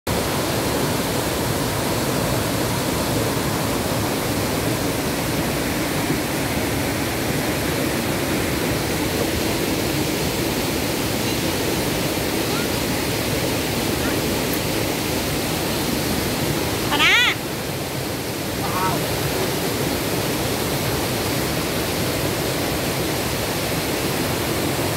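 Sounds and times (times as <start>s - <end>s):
white water pouring over rocks: 0.1s - 24.9s.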